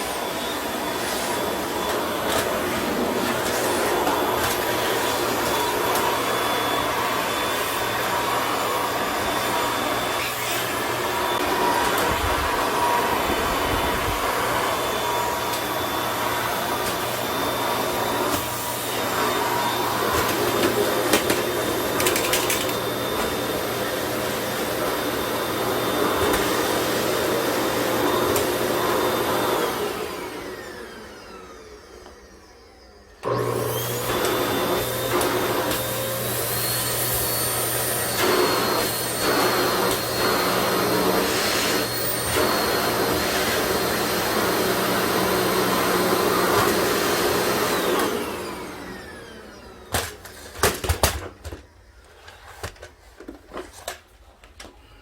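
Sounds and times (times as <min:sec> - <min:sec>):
vacuum cleaner motor running: 0:00.0 - 0:53.9.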